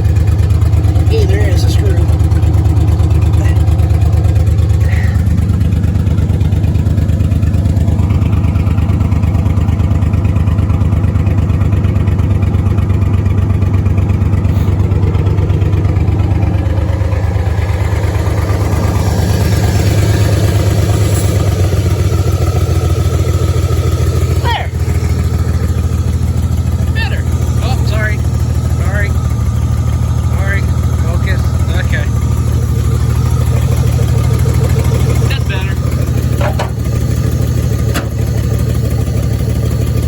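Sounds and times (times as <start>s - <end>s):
truck engine idling: 0.0s - 40.0s.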